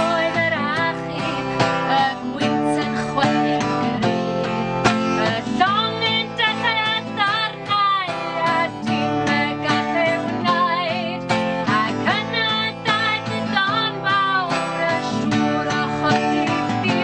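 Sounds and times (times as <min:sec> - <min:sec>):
strummed acoustic guitar: 0:00.0 - 0:17.0
woman singing folk song: 0:00.0 - 0:17.0.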